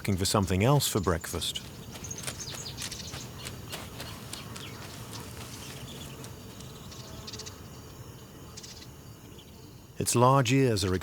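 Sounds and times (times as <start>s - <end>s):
insects chirping: 0.0s - 11.0s
soft outdoor background: 0.0s - 11.0s.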